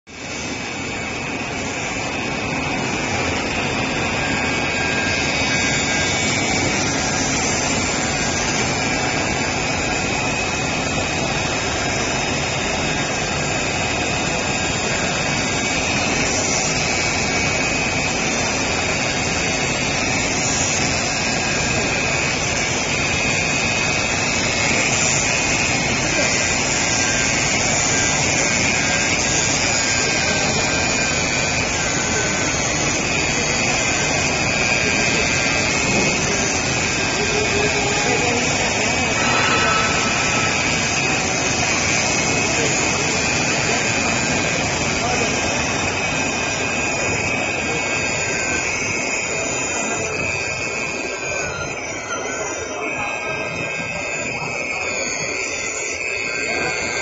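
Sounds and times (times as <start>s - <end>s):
fabric cutting machine running: 0.0s - 51.3s.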